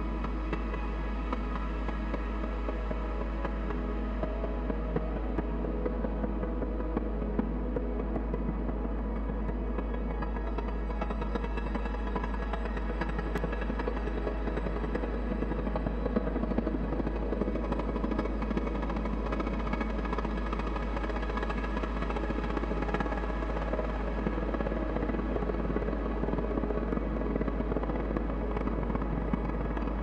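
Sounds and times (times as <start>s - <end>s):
droning electronic music: 0.0s - 30.0s.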